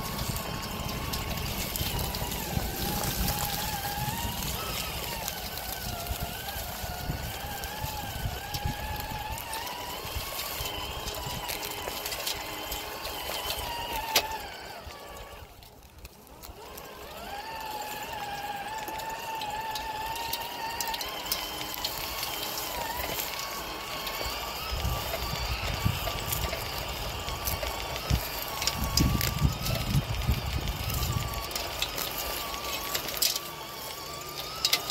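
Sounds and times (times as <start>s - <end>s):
small electric motor whining: 0.0s - 34.9s.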